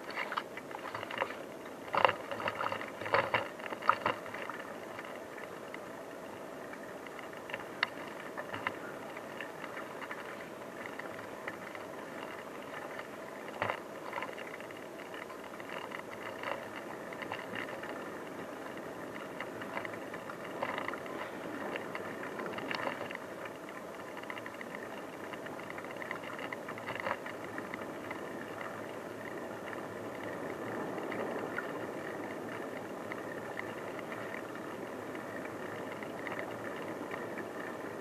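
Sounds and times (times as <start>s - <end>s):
bicycle rattles: 0.0s - 5.8s, 7.0s - 38.0s
bicycle tyres on rough track: 0.0s - 38.0s.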